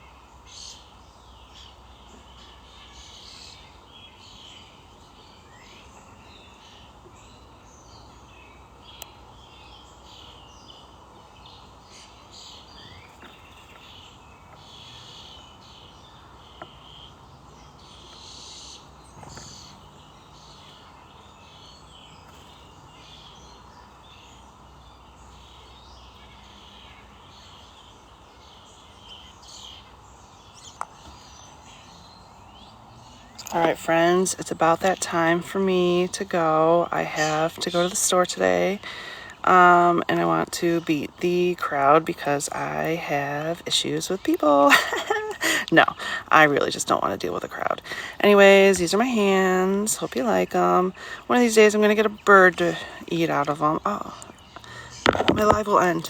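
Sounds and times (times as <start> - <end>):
small birds chirping: 0.0 - 56.0
steady outdoor hiss: 0.0 - 56.0.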